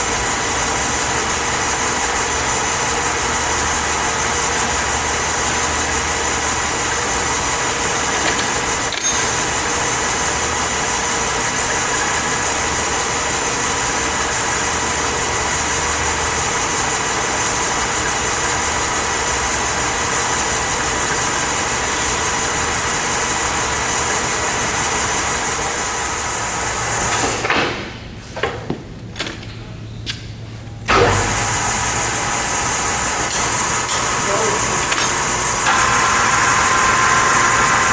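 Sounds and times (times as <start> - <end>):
lathe motor humming: 0.0 - 27.2, 30.9 - 37.9.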